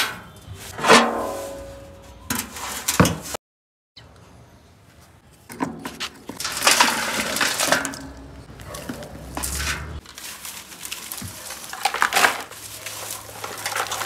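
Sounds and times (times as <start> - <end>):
soil and stones rattling on metal: 0.0 - 3.4, 5.5 - 14.0.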